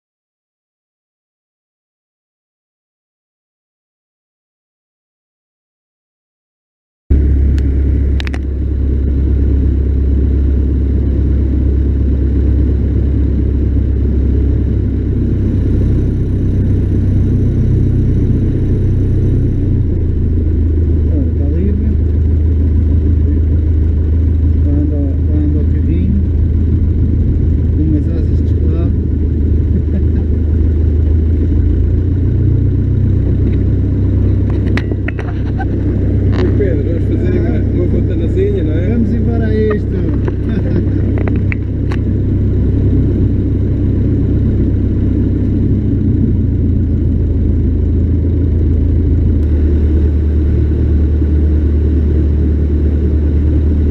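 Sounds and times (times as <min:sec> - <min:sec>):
light aircraft engine drone: 0:07.1 - 0:53.9.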